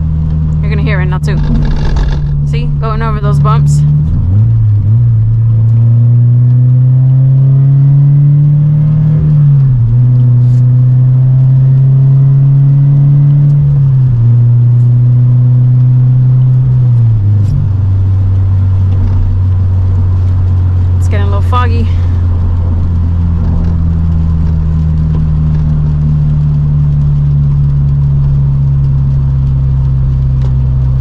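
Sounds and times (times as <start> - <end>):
car engine and exhaust droning: 0.0 - 31.0.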